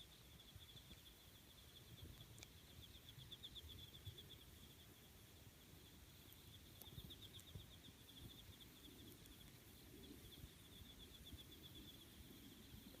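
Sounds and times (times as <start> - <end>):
insect trilling: 0.0 - 13.0
campfire crackling: 0.2 - 13.0.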